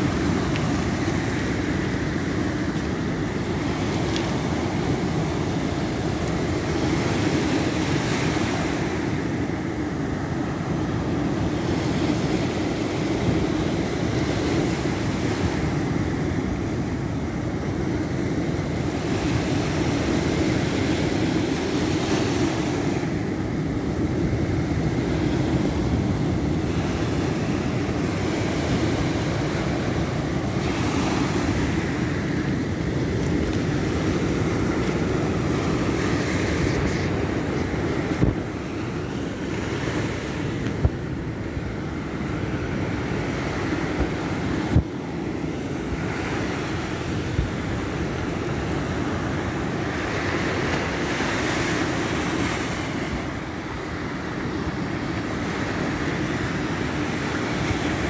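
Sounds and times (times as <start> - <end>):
wind noise on microphone: 10.8 - 58.0.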